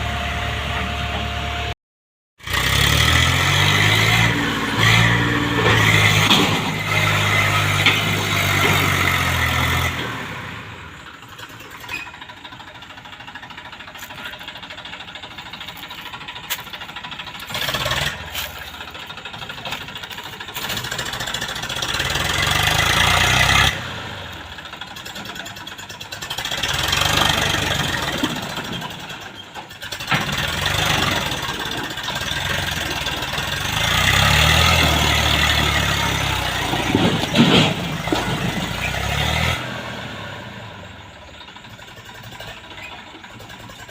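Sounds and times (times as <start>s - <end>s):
diesel engine revving: 0.0s - 1.8s, 2.4s - 43.9s.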